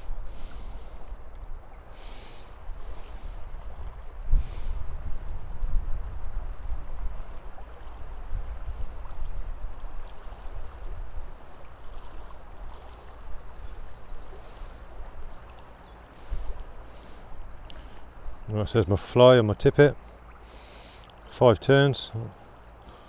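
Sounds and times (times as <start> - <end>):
low rumble on microphone: 0.0 - 18.6
river water flowing: 0.0 - 23.0.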